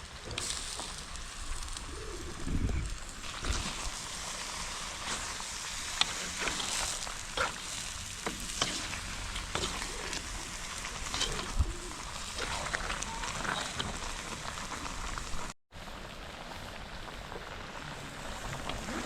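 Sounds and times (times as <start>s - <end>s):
sharp pops and crackles: 0.0s - 15.6s
food sizzling in a pot: 0.0s - 19.0s.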